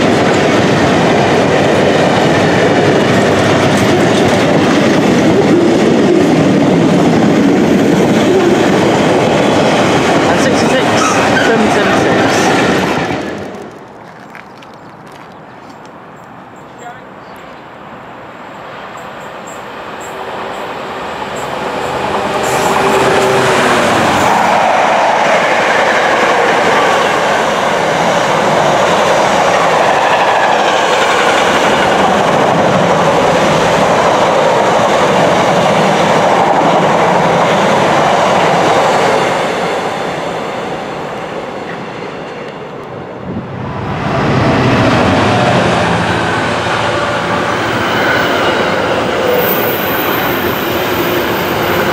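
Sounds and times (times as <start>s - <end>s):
diesel locomotive passing: 0.0s - 51.9s
train wagons rumbling and clacking: 0.0s - 51.9s.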